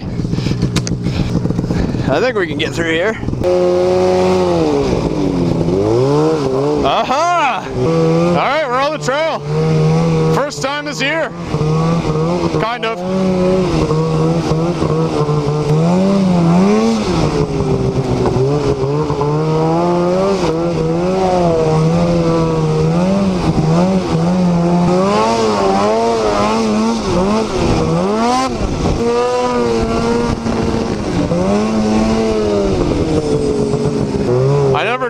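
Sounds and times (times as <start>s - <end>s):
snowmobile engine revving: 0.0s - 35.0s.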